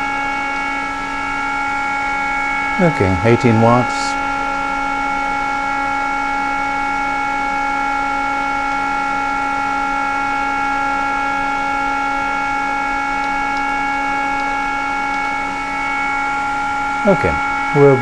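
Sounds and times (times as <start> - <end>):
cooling fans: 0.0 - 18.0
electronics whine and hum: 0.0 - 18.0.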